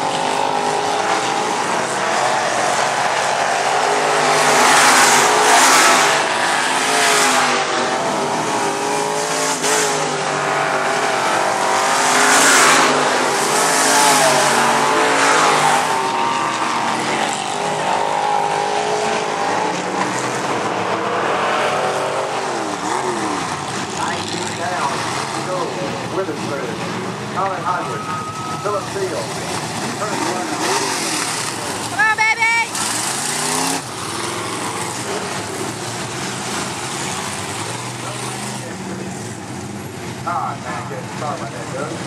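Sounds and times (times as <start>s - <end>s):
race car engines roaring: 0.0s - 42.0s.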